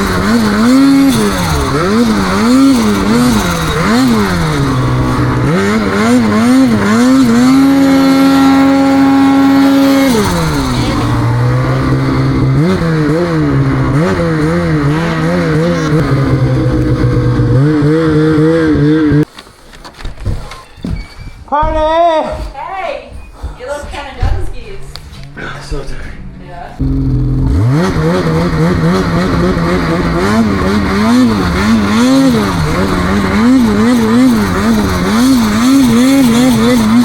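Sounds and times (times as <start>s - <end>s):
snowmobile engine revving: 0.0s - 19.3s, 25.1s - 37.0s.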